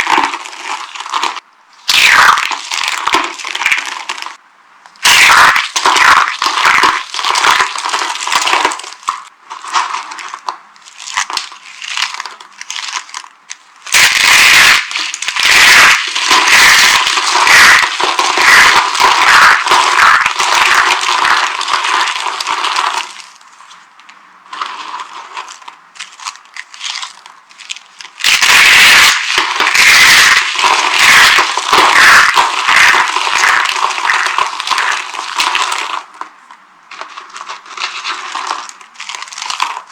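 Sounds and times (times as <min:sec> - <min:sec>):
dry soap crunching by hand: 0:00.0 - 0:04.4, 0:05.0 - 0:39.9.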